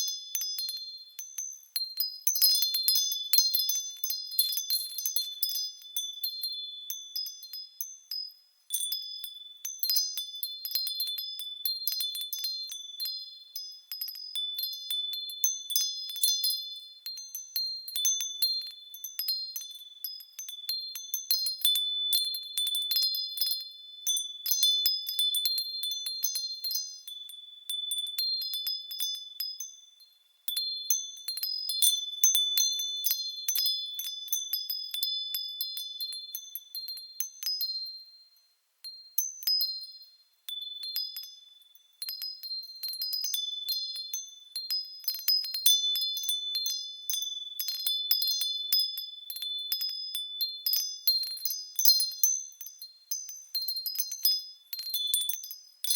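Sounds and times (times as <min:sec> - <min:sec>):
wind chime ringing: 0:00.0 - 0:55.9.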